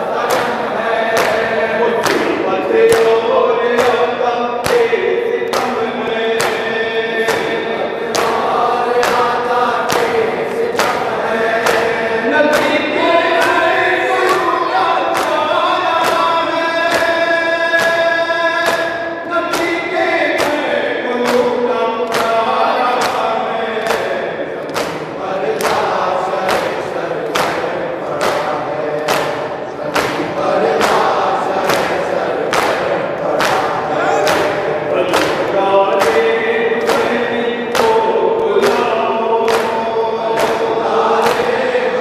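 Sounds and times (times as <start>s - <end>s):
hands beating chest: 0.0s - 42.0s
men chanting in unison: 0.0s - 42.0s.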